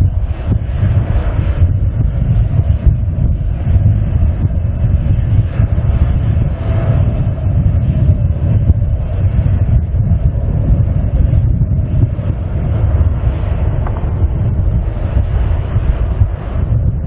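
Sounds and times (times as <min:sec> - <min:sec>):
jet engines idling: 0:00.0 - 0:17.0
wind buffeting microphone: 0:00.0 - 0:17.0.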